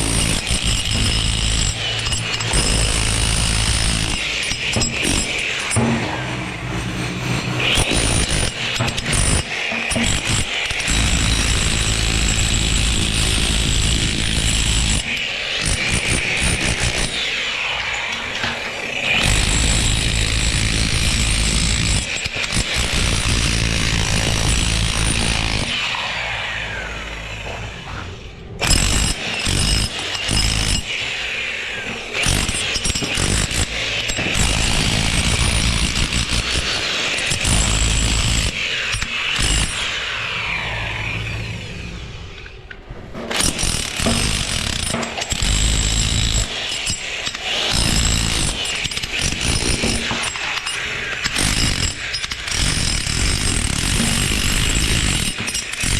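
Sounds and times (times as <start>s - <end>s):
power tool and machinery noise: 0.0s - 55.9s.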